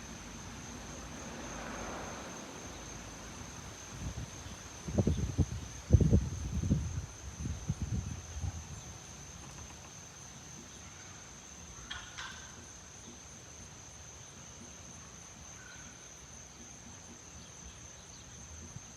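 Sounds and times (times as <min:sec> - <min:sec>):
high-pitched insect trill: 0:00.0 - 0:18.9.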